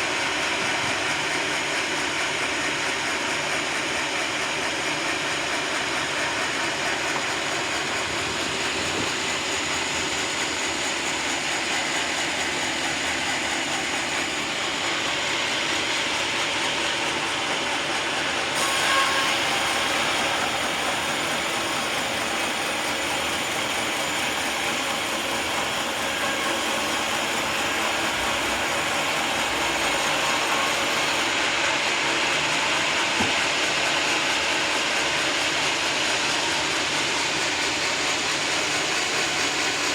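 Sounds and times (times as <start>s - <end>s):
sawmill sawing log: 0.0s - 39.9s.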